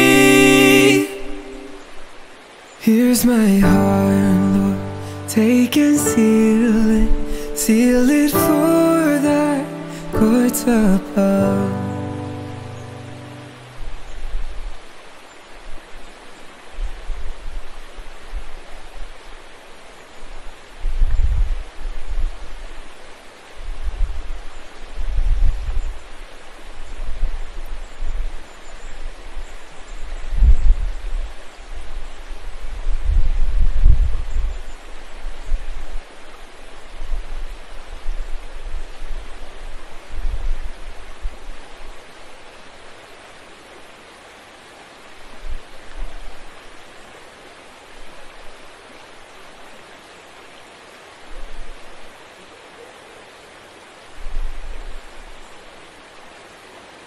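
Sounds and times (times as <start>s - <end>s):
flowing water rushing: 0.0s - 30.3s, 30.9s - 57.0s.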